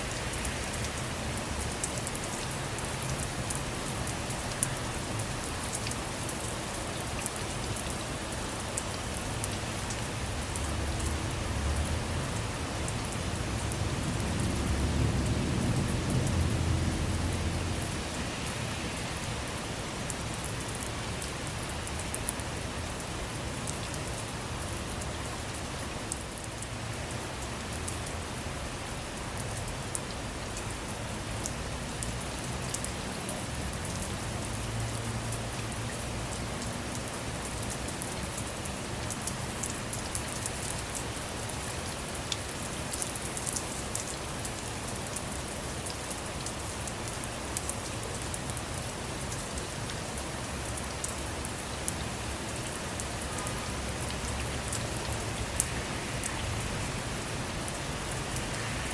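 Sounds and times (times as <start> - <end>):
rain on car roof and windows: 0.0 - 58.9.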